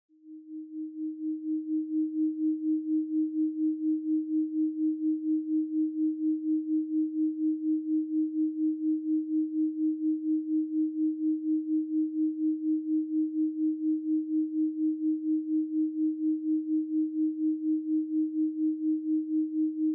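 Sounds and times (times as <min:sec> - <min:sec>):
pulsing sine tone: 0:00.2 - 0:19.9.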